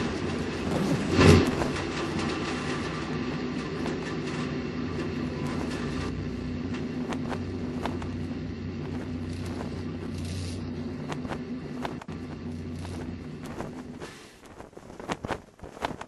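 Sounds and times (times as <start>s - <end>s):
constant hum: 0.0s - 16.0s
low mechanical rumble: 0.0s - 16.0s.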